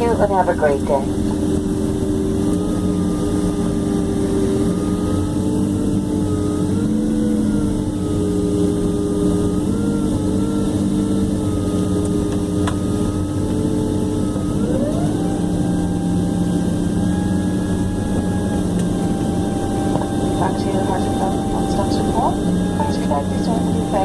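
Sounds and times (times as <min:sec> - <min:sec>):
jet engines whining at idle: 0:00.0 - 0:24.0.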